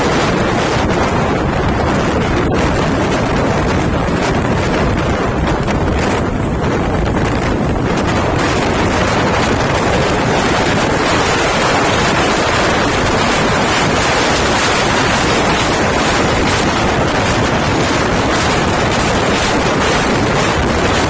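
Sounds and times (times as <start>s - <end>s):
vehicle rumble: 0.0s - 21.0s
wind buffeting microphone: 0.0s - 21.0s.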